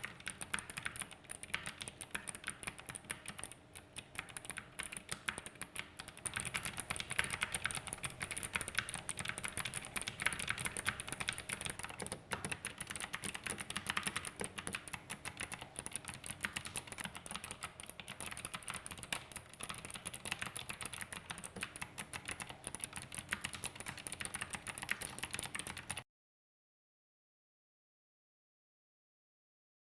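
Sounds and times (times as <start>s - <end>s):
fast keyboard typing clicks: 0.0s - 26.0s.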